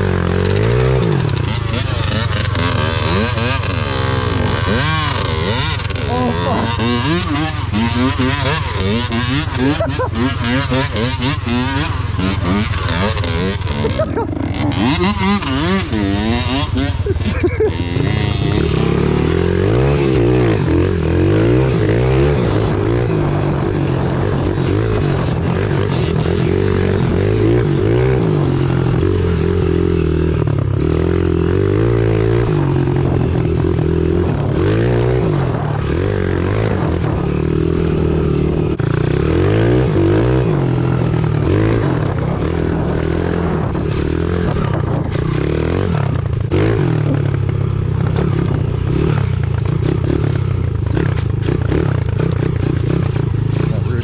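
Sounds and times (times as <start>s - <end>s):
small motorbike engine revving: 0.0s - 54.0s.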